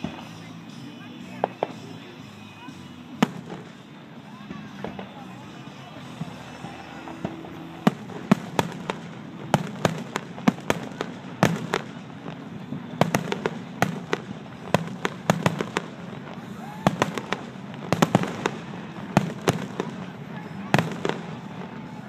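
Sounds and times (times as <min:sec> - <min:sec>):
fireworks bangs and pops: 0:00.0 - 0:22.0.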